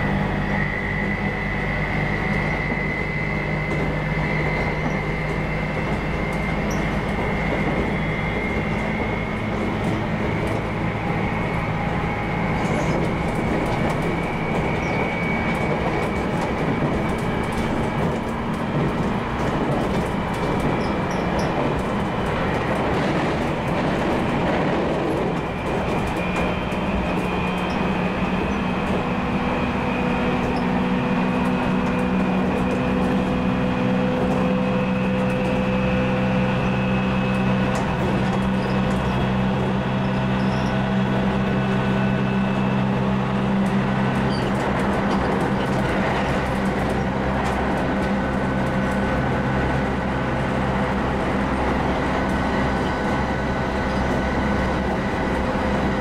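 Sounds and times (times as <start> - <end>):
train rail and running noise: 0.0 - 56.0.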